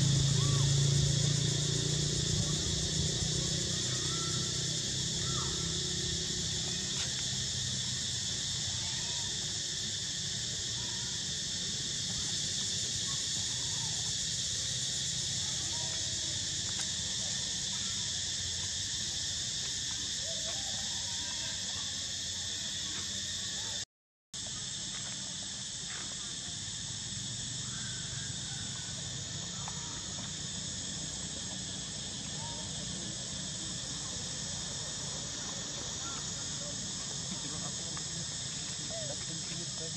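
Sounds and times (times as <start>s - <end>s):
shrill insect chorus: 0.0s - 23.8s, 24.4s - 39.9s.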